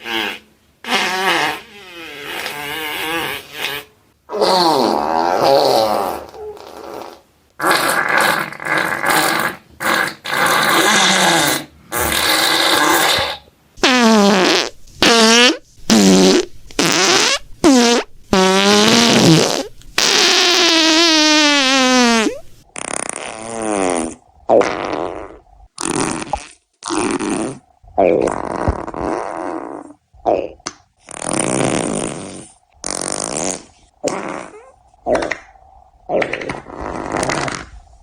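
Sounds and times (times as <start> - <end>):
fart sounds: 0.0 - 38.0.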